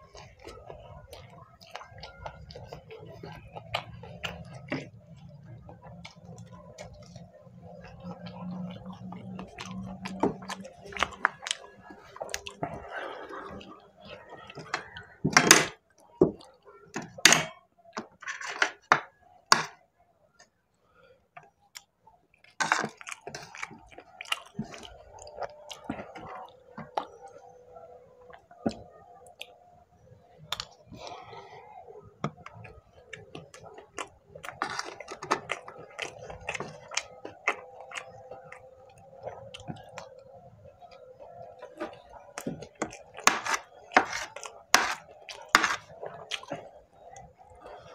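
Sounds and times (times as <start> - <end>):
wet chewing: 0.0 - 17.2, 21.5 - 29.7, 30.3 - 47.9.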